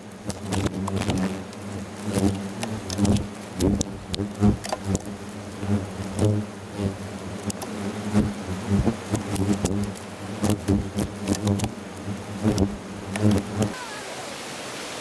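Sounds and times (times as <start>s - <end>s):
wasps buzzing: 0.0s - 14.3s.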